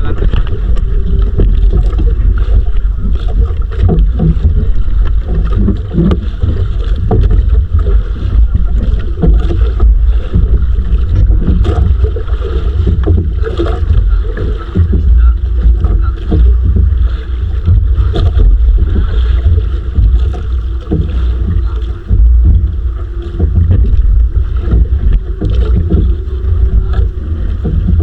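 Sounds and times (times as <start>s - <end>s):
water splashing: 0.0s - 28.0s
wind rumble on microphone: 0.0s - 28.0s.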